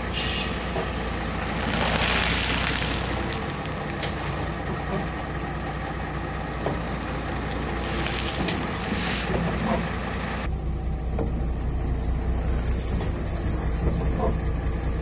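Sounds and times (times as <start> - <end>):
truck engine running low: 0.0 - 15.0.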